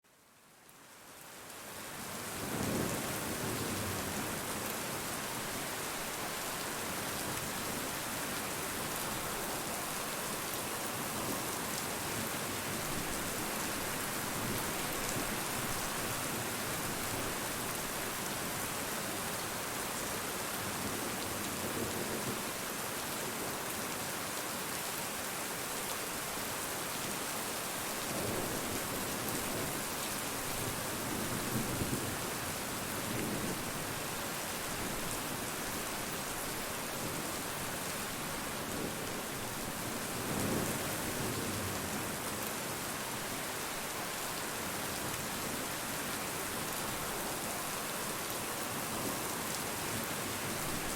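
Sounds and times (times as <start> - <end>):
rain falling: 0.1 - 50.9.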